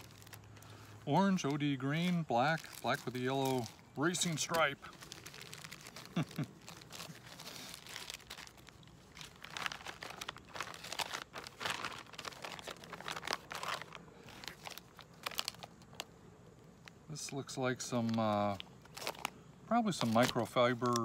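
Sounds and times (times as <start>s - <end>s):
plastic bags crinkling: 0.0s - 16.1s, 17.8s - 21.0s.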